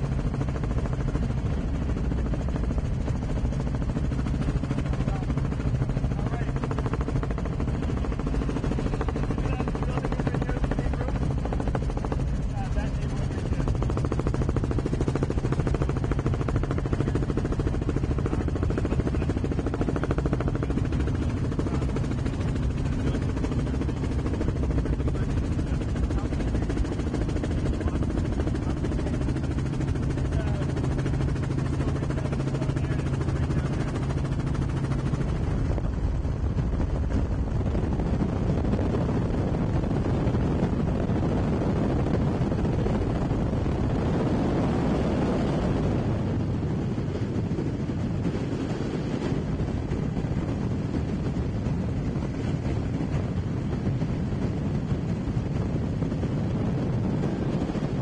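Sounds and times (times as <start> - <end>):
helicopter engine and rotor drone: 0.0 - 58.0
wind rush: 0.0 - 58.0.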